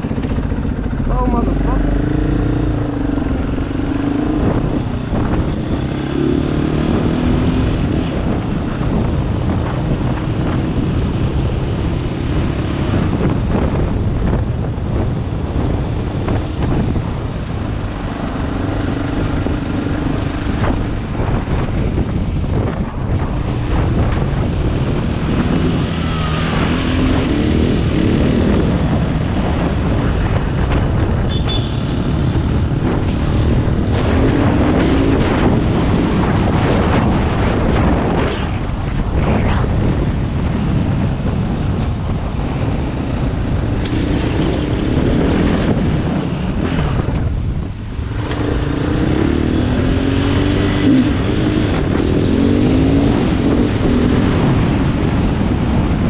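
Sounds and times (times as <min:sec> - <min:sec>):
motorcycle engine revving: 0:00.0 - 0:41.6, 0:42.5 - 0:56.0
wind rushing over microphone: 0:00.0 - 0:56.0.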